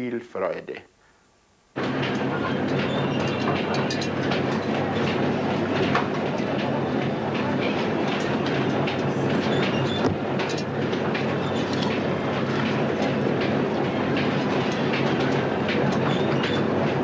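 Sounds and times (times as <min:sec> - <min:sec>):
ride rattling and clacking: 0:01.8 - 0:17.0.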